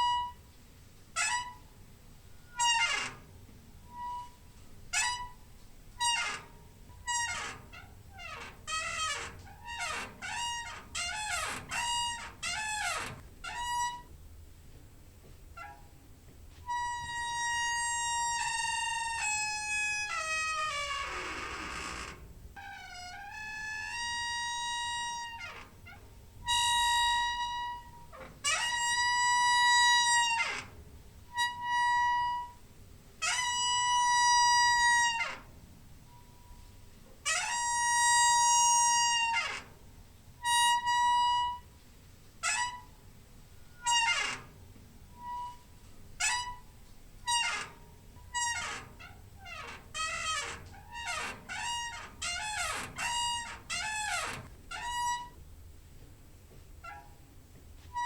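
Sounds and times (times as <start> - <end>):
door hinge squeaking: 0.0 - 0.4, 1.1 - 14.2, 15.5 - 16.0, 16.6 - 32.6, 33.2 - 35.5, 37.3 - 39.8, 40.4 - 41.7, 42.4 - 43.0, 43.6 - 55.5, 56.8 - 57.3.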